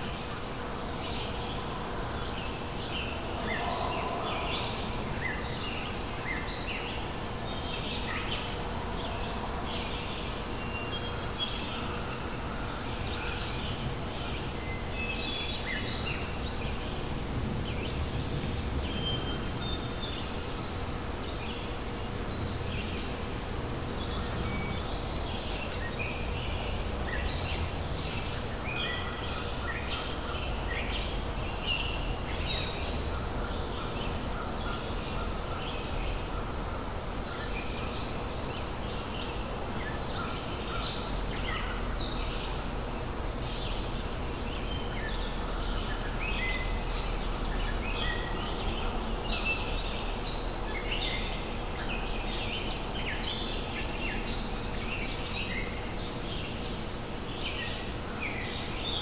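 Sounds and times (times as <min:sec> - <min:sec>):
faint steady hum: 0:00.0 - 0:59.0
songbirds chirping: 0:00.0 - 0:59.0.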